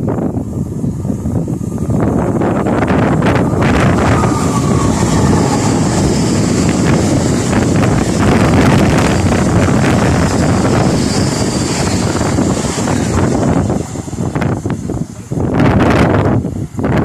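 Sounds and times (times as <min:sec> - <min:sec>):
train passing at speed: 0:00.0 - 0:17.0
wind buffeting microphone: 0:00.0 - 0:17.0.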